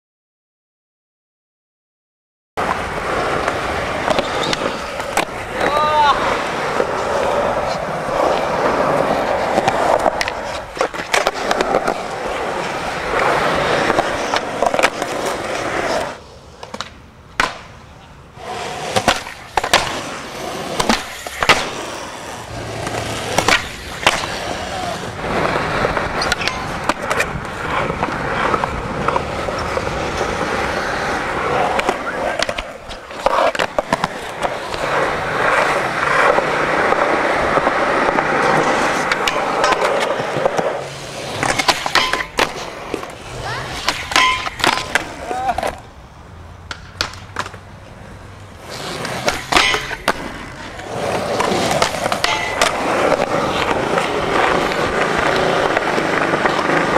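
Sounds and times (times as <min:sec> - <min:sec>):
skateboard clacks: 0:02.6 - 0:45.9, 0:46.6 - 0:56.9
skateboard wheels rolling on concrete: 0:02.6 - 0:56.9.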